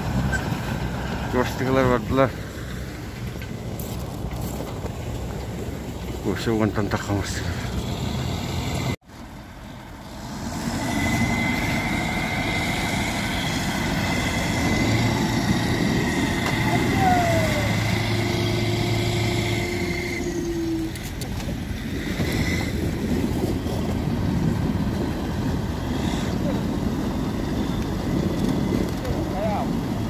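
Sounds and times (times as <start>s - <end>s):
heavy diesel engines under load: 0.0s - 30.0s.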